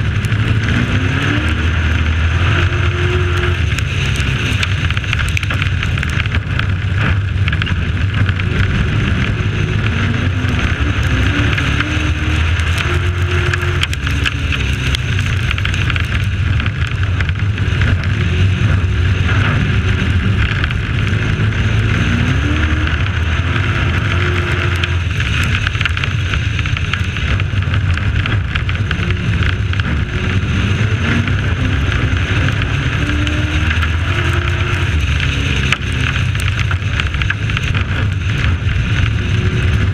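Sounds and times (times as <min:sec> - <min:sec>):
truck engine running hard: 0:00.0 - 0:39.9
wind and tyre noise: 0:00.0 - 0:39.9.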